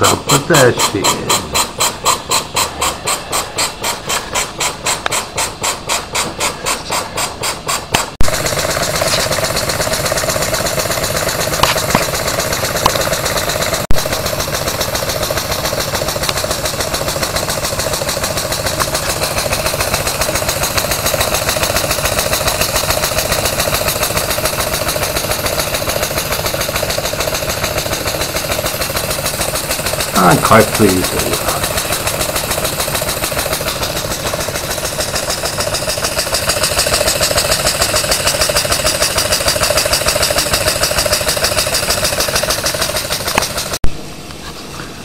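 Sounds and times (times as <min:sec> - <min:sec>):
model steam engine running: 0:00.0 - 0:43.8.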